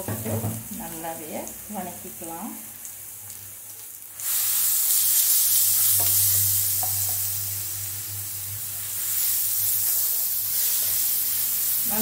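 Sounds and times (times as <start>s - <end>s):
paste sizzling in hot oil: 0.6s - 12.0s.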